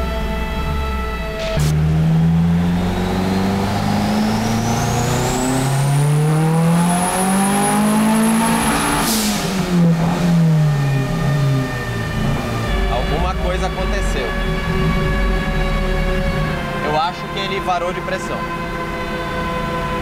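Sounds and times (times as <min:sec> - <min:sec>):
car engine revving at full throttle: 0:00.0 - 0:20.0.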